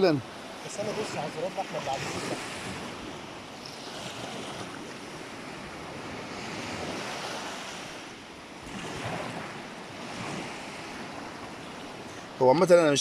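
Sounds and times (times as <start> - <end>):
sea surf washing on shore: 0.0 - 13.0
wind on microphone: 0.7 - 12.4.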